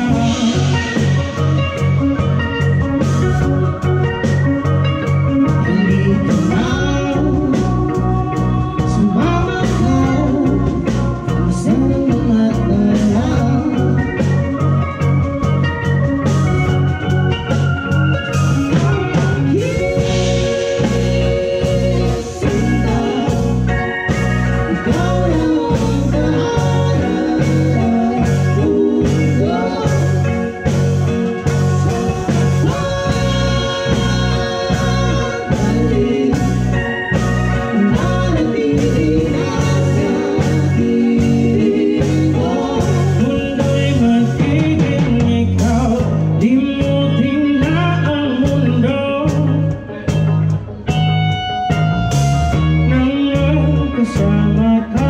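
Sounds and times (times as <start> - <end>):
live band playing with vocals: 0.0 - 55.0.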